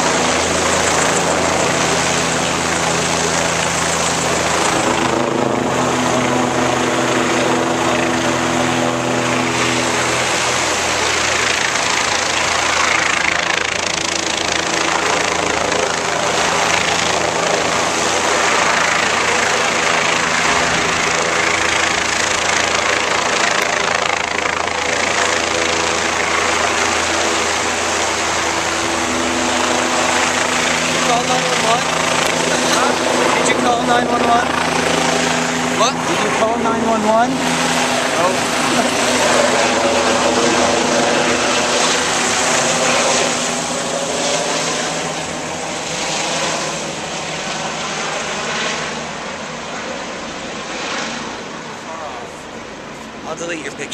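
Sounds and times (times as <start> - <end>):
helicopter rotor drone: 0.0 - 53.9.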